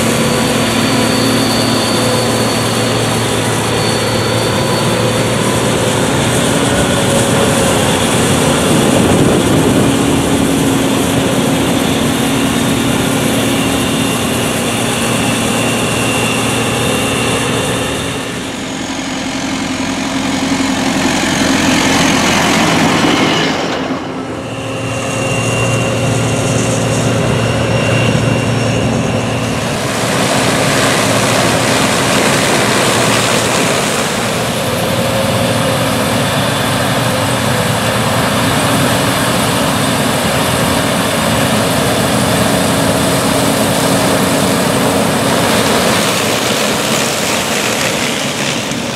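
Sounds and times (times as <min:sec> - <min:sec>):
combine harvester engine: 0:00.0 - 0:48.9
tractor engine: 0:00.0 - 0:48.9.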